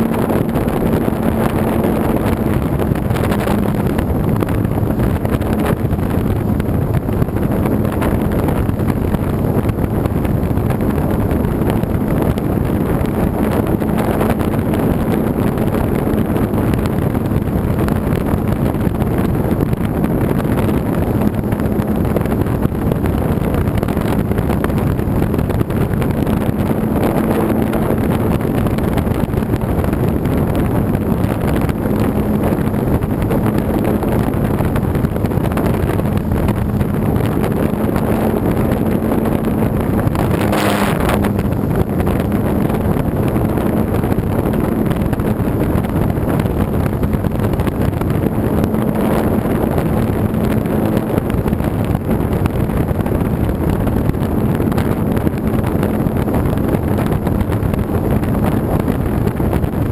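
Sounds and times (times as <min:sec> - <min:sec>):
model airplane motor and propeller: 0:00.0 - 0:59.9
wind noise on microphone: 0:00.0 - 0:59.9.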